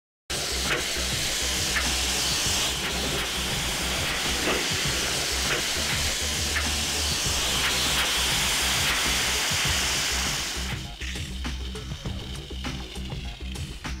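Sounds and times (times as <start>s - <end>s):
high-pressure fluid jet hissing: 0.3s - 13.8s.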